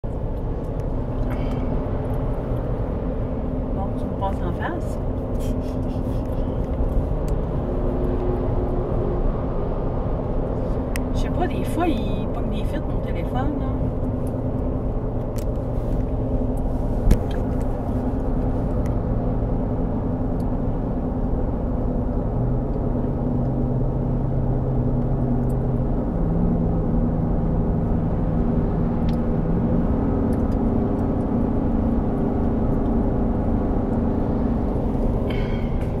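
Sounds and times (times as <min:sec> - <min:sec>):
low hum stepping up: 0:00.0 - 0:36.0
road and engine noise: 0:00.0 - 0:36.0.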